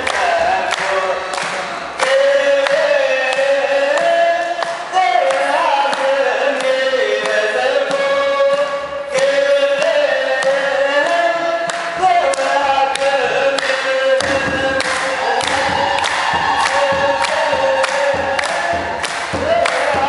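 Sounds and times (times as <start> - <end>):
congregation chanting a hymn: 0.0 - 20.0
hand clapping: 0.0 - 20.0.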